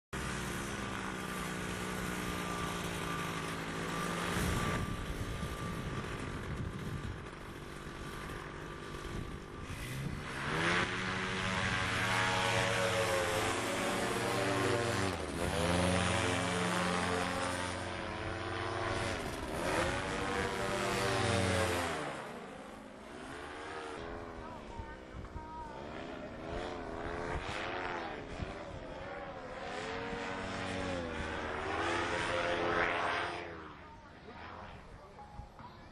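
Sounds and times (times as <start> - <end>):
paramotor engine and propeller: 0.2 - 35.9.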